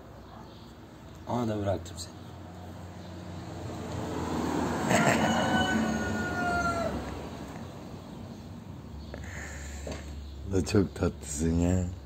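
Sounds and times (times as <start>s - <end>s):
vehicle passing rumble: 1.4s - 11.4s.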